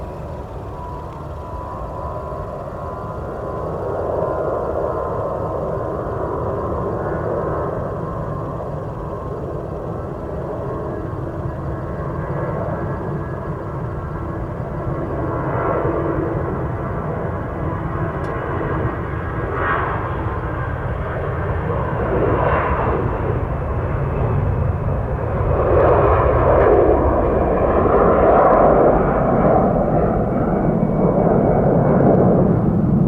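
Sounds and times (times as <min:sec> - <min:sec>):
faint jet whine: 0:00.0 - 0:33.0
jet engines rushing: 0:00.0 - 0:33.0.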